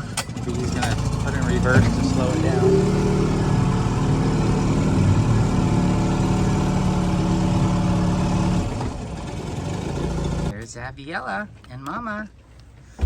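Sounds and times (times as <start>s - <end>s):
outboard motor running: 0.0s - 10.5s.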